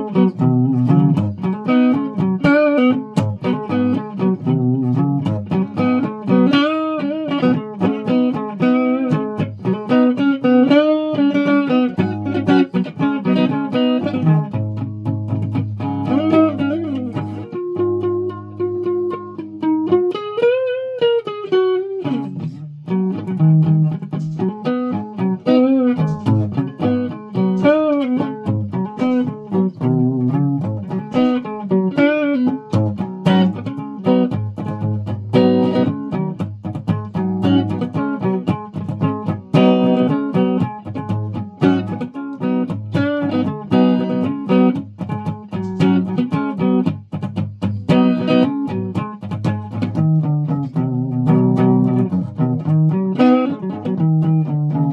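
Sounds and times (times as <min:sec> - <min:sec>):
guitar picked melody: 0:00.0 - 0:54.9.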